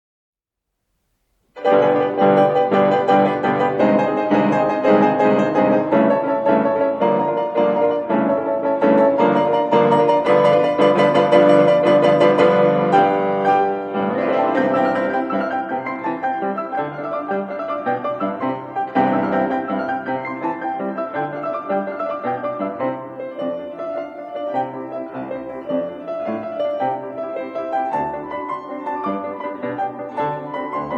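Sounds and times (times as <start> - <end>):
piano music: 1.6 - 30.9.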